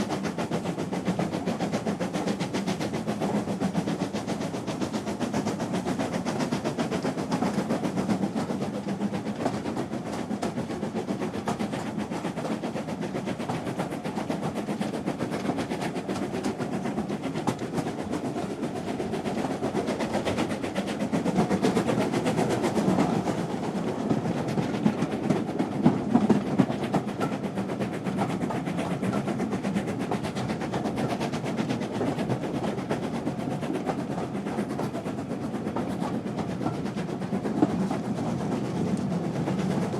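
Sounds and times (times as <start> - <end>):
train rumbling: 0.0 - 39.9
wheels clattering on rails: 0.0 - 39.9.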